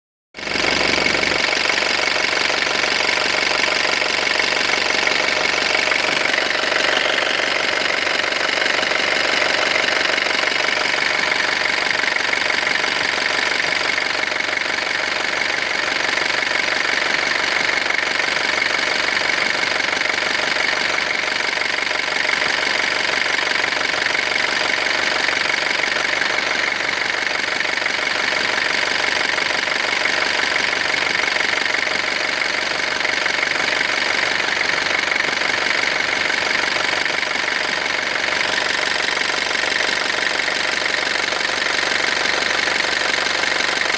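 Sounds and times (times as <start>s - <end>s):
van engine knocking clatter: 0.4s - 43.9s.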